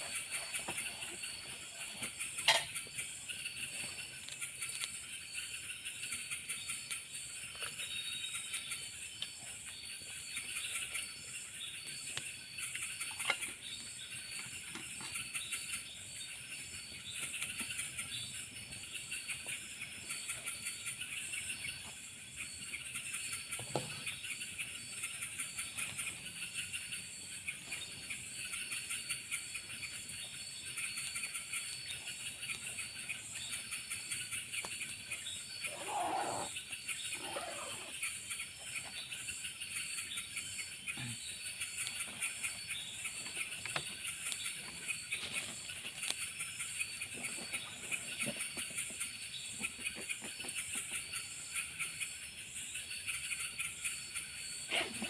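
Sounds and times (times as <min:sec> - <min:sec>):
insects trilling and buzzing: 0:00.0 - 0:55.0.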